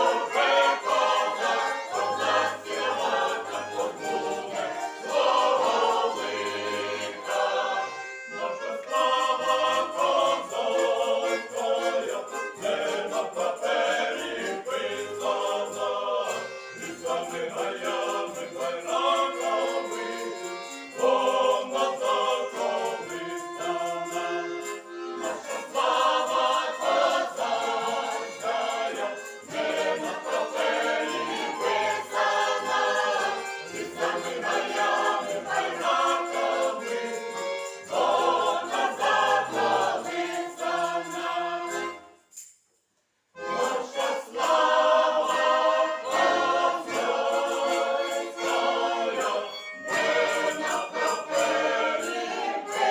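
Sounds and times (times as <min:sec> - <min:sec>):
button accordion: 0:00.0 - 0:42.3, 0:43.4 - 0:52.9
violin: 0:00.0 - 0:42.4, 0:43.4 - 0:52.9
folk choir singing in harmony: 0:00.0 - 0:42.5, 0:43.4 - 0:52.9.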